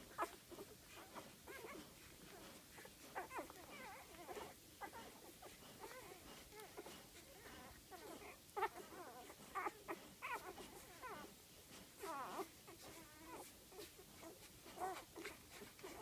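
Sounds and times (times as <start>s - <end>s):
puppies squeaking and whimpering: 0.0s - 16.0s
puppy whining: 0.0s - 16.0s.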